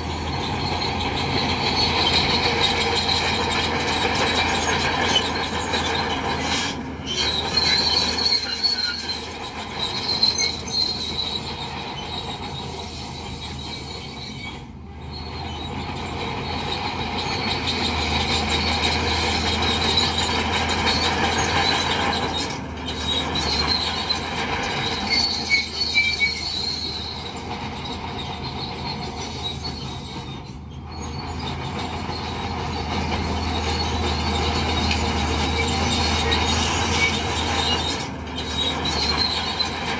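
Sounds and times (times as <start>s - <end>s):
bulldozer diesel engine under load: 0.0s - 39.9s
steel tracks squealing and clanking: 0.0s - 39.9s.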